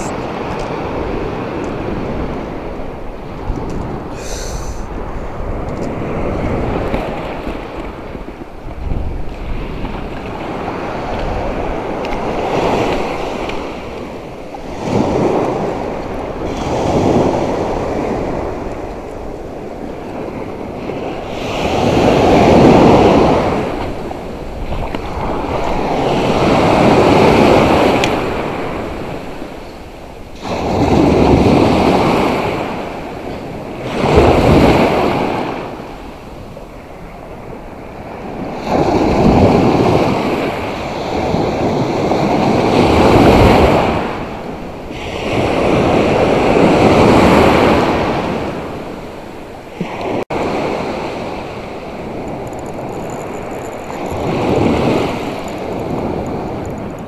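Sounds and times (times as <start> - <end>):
surf breaking on beach: 0.0 - 29.7, 30.3 - 57.0.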